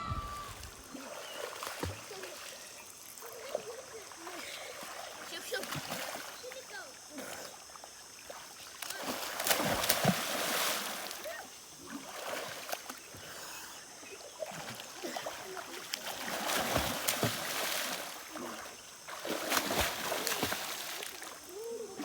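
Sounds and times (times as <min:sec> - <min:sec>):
river water splashing: 0:00.0 - 0:22.0.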